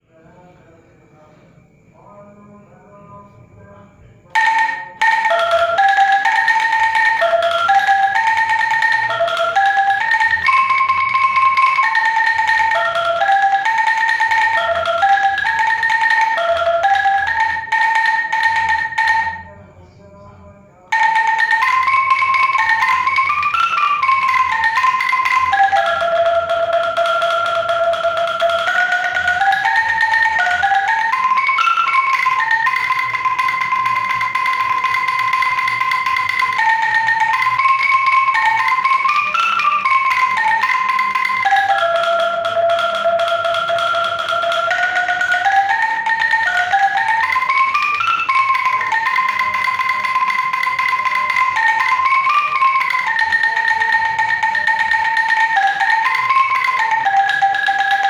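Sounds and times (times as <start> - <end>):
bamboo angklung melody: 4.3 - 19.8, 20.6 - 58.0.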